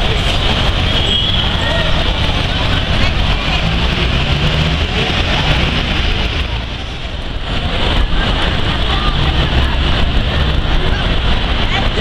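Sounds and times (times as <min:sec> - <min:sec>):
buses and cars running: 0:00.0 - 0:12.0
crowd chatter: 0:00.0 - 0:12.0.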